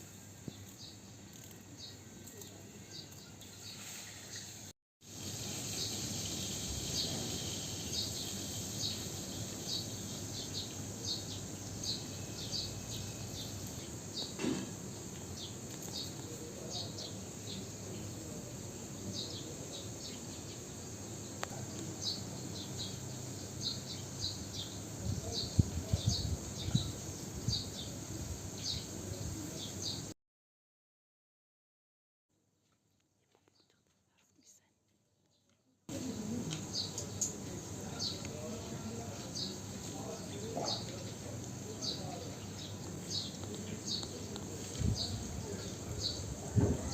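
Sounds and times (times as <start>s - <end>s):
steady high hiss: 0.0s - 30.1s, 35.9s - 46.9s.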